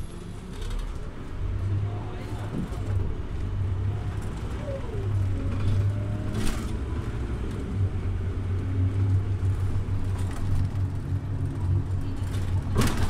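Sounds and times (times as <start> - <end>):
bus diesel engine hum: 0.0 - 13.0.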